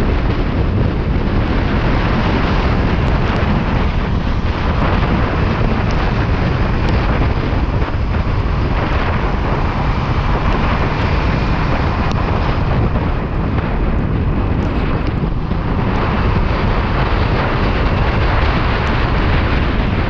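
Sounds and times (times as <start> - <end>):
motorcycle engine running: 0.0 - 20.0
wet road noise: 0.0 - 20.0
wind noise on microphone: 0.0 - 20.0.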